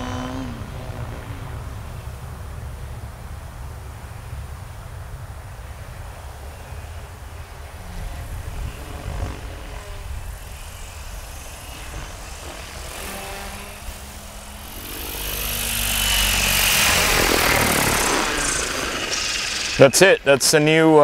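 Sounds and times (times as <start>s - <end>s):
faint low engine hum: 0.0s - 21.0s
helicopter rotor blades whooshing: 0.0s - 21.0s.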